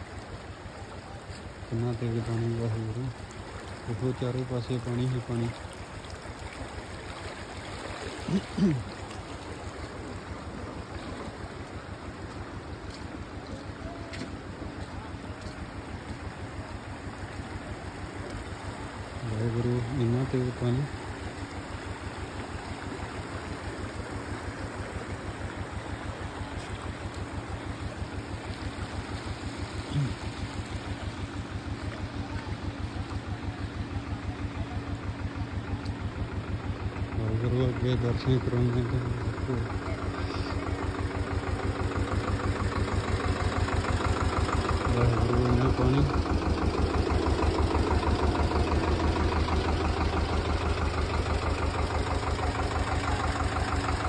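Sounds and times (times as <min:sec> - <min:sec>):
floodwater rushing: 0:00.0 - 0:54.0
vehicle engine chugging at low revs: 0:00.0 - 0:54.0.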